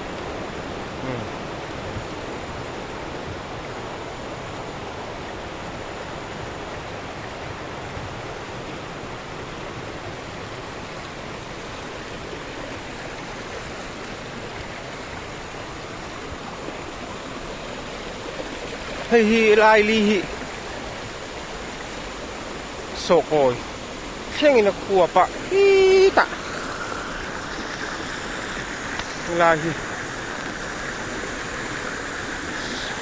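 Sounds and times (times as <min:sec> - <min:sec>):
flooded river rushing: 0:00.0 - 0:33.0.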